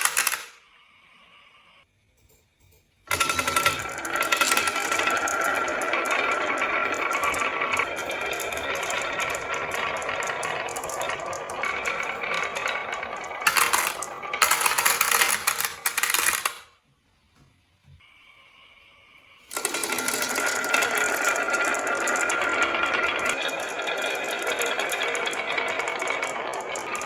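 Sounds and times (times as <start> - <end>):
marbles clattering down a marble run: 0.0 - 0.6, 3.1 - 16.7, 19.5 - 27.0.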